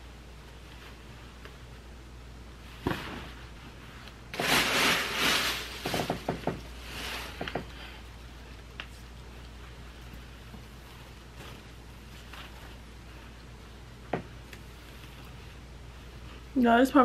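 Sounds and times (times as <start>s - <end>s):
cloth rustling: 2.6s - 16.5s.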